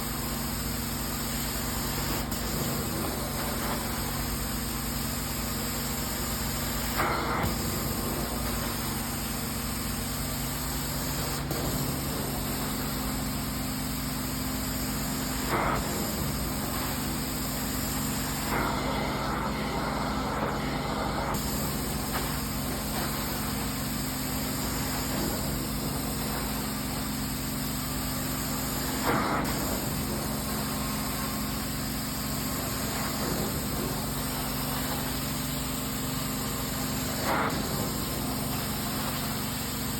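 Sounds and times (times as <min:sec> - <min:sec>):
carpet cleaner motor hum: 0:00.0 - 0:39.9.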